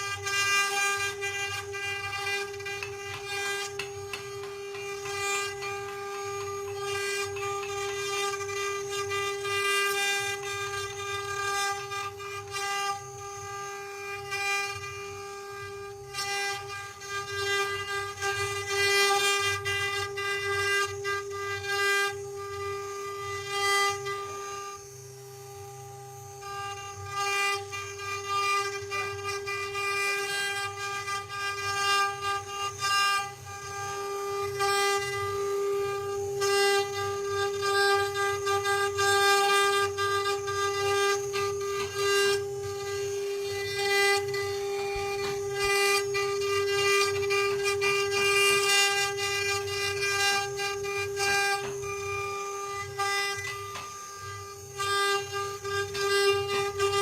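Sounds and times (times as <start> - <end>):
low buzz: 0.0 - 57.0
router spindle whine: 0.0 - 57.0.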